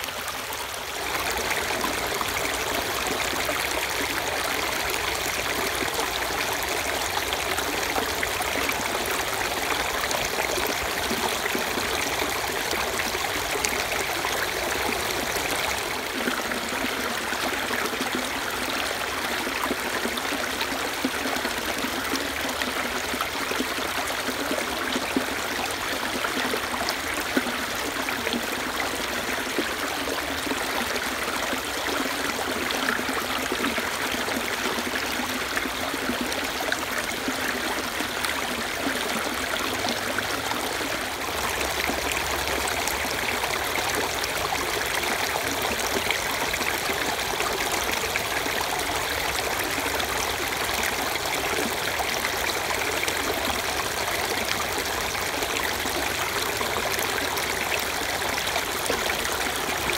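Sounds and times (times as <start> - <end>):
creek water babbling over rocks: 0.0 - 59.9.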